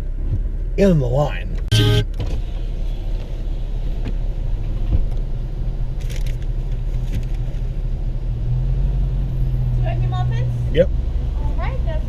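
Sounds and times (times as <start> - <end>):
car engine and cabin rumble: 0.0 - 12.0.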